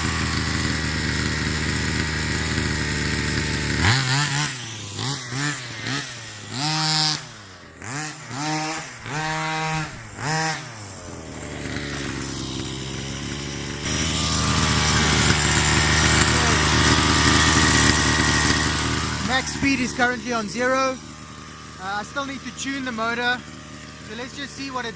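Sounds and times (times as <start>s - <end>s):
two-stroke engine idling: 0.0s - 24.9s
two-stroke engine revving: 0.0s - 24.9s.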